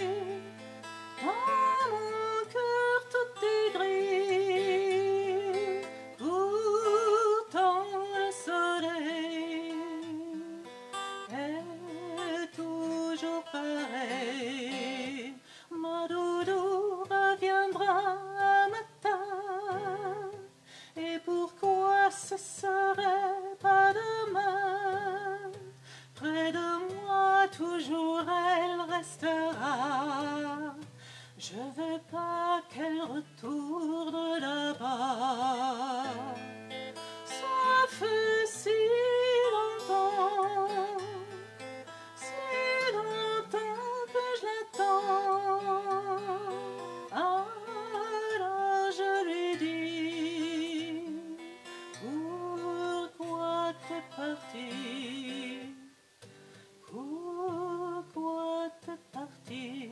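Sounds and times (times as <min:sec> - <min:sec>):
woman singing with vibrato: 0:00.0 - 0:56.1, 0:56.8 - 0:59.9
acoustic guitar: 0:00.0 - 0:59.9.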